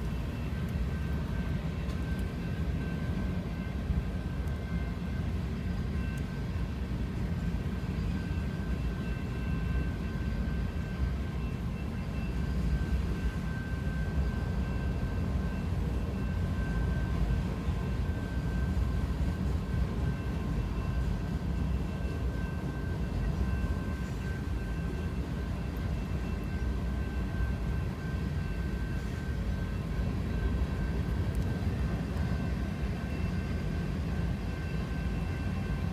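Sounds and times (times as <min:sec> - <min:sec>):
train rumbling: 0:00.0 - 0:35.9.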